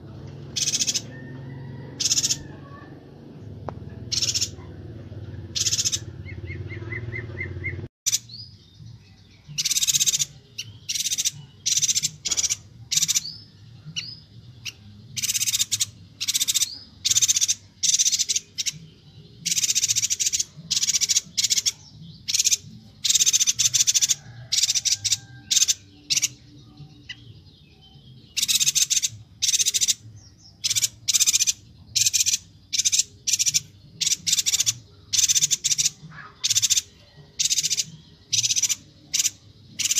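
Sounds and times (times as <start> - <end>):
bird chattering calls: 0.5 - 2.9, 4.0 - 8.3, 9.5 - 26.4, 28.3 - 39.9.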